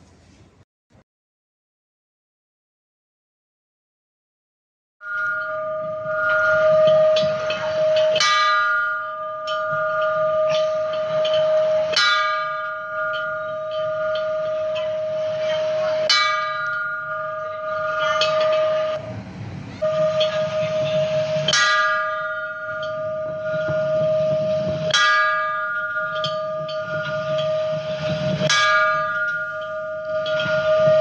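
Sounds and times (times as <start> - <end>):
temple bell ringing: 5.0 - 19.2, 19.8 - 31.0.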